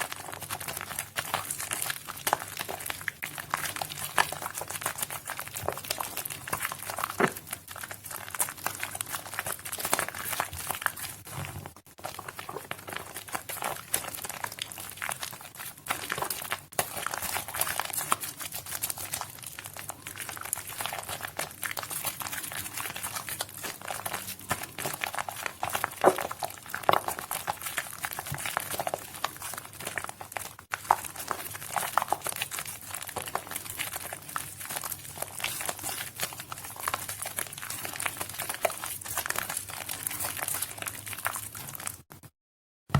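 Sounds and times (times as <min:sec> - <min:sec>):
wet soap being squished: 0:00.0 - 0:42.1.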